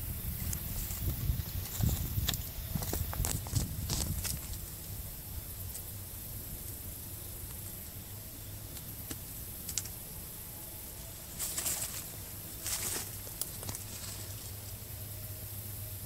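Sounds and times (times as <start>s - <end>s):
dry leaves and twigs rustling: 0.0s - 15.6s
low background hiss: 0.0s - 16.0s.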